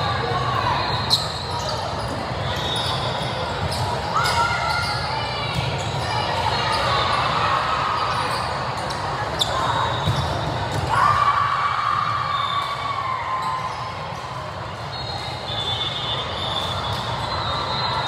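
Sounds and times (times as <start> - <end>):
crowd chatter in gym: 0.0 - 18.0.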